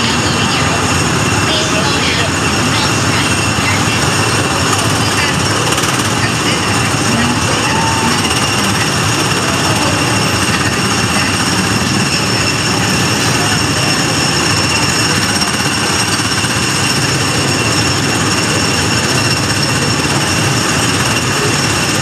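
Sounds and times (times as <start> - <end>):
high-pitched whines: 0.0 - 22.0
loud machinery noise: 0.0 - 22.0.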